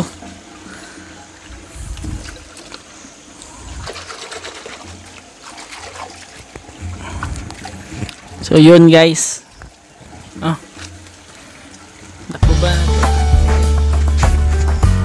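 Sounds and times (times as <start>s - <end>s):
water trickling and splashing: 0.0s - 13.2s.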